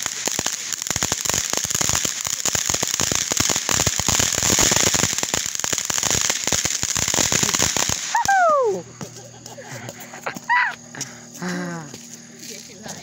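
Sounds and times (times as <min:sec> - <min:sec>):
firework hissing and crackling: 0:00.0 - 0:13.0.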